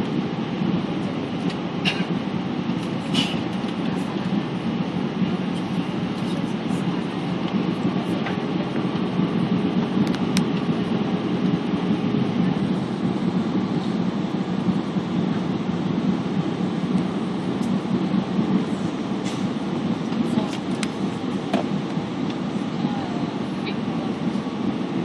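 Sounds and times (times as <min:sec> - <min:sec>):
jet engine cabin rumble: 0:00.0 - 0:25.0.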